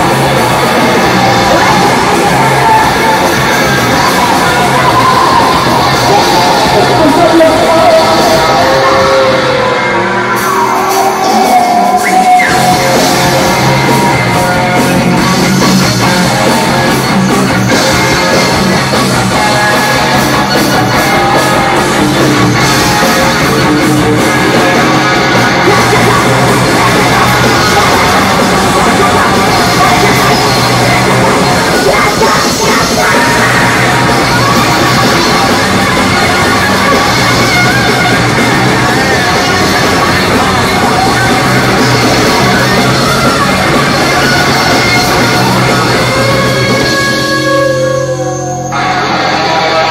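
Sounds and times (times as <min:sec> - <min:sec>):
industrial noise rock band playing: 0:00.0 - 0:49.9
shouted vocals: 0:00.0 - 0:49.9.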